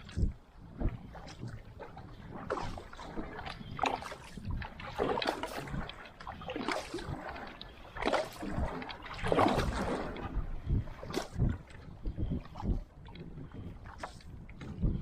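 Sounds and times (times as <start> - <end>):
paddle splashing in water: 0.0 - 14.9
water rushing along hull: 0.0 - 15.0
wind rumble on microphone: 0.0 - 15.0.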